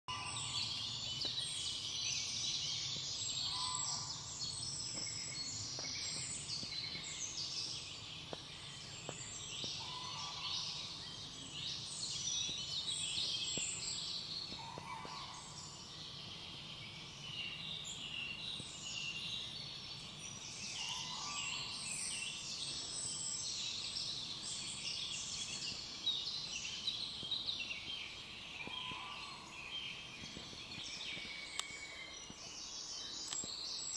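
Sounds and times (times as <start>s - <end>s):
songbirds singing in chorus: 0.0s - 33.9s.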